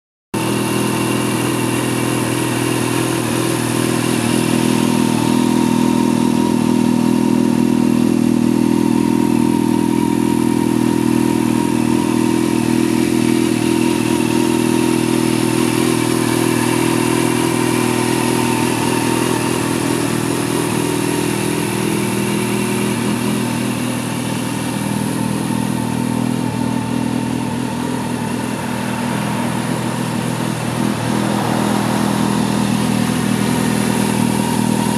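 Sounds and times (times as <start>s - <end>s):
motorcycle engine idling: 0.4s - 34.9s.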